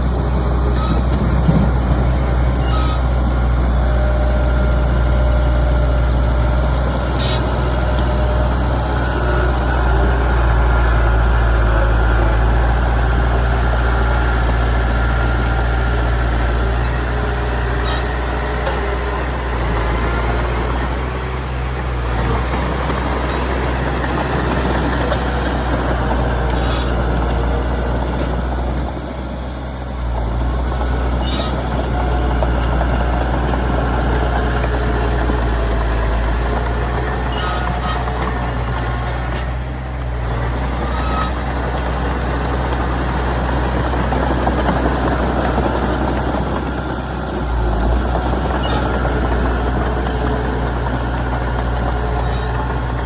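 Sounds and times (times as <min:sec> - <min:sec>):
bulldozer diesel engine droning: 0:00.0 - 0:53.0.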